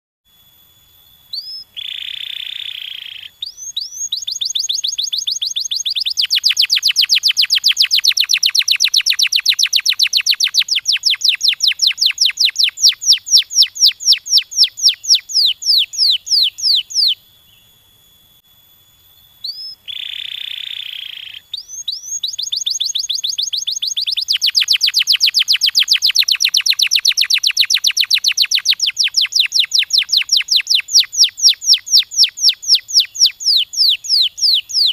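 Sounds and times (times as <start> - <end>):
canary singing trills: 1.2 - 17.8, 19.2 - 34.9.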